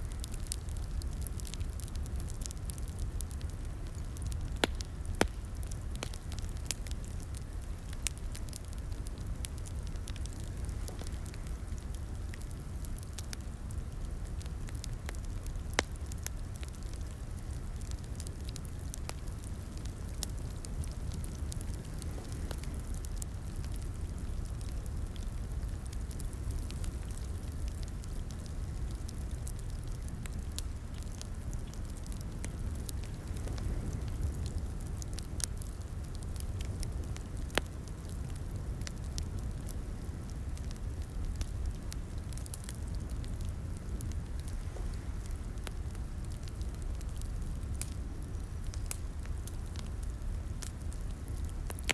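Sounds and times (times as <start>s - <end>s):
low rumble of flame: 0.0s - 51.9s
wood fire crackling and popping: 0.0s - 51.9s.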